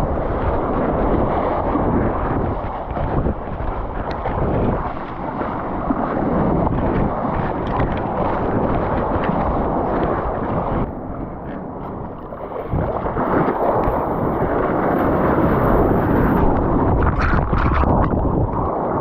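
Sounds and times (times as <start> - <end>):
sea water rushing: 0.0 - 19.0
wind buffeting microphone: 0.0 - 19.0.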